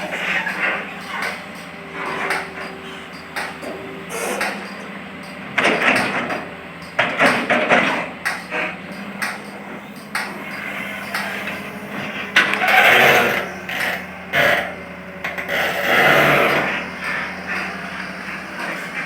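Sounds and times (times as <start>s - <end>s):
excavator diesel engine humming: 0.0s - 19.0s
soil and bucket clattering on truck: 0.0s - 19.0s.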